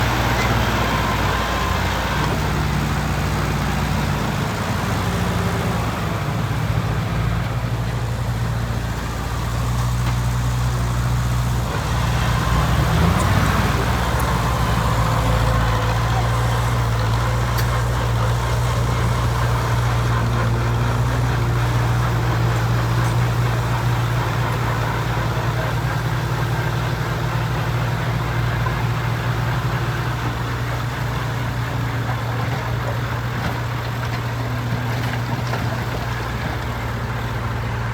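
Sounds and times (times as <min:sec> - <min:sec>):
heavy machine engine droning: 0:00.0 - 0:37.9.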